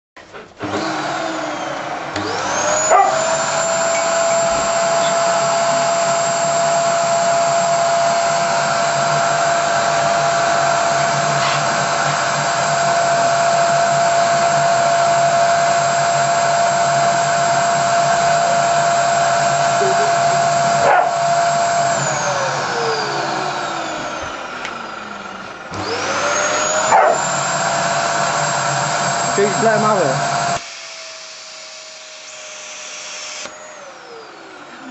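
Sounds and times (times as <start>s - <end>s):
vacuum cleaner motor whining: 0.3s - 34.9s.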